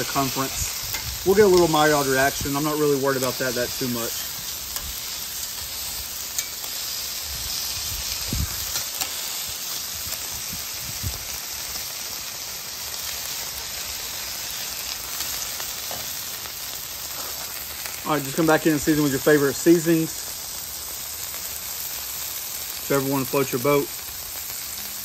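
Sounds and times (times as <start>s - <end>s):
burger patties sizzling on griddle: 0.0s - 25.0s.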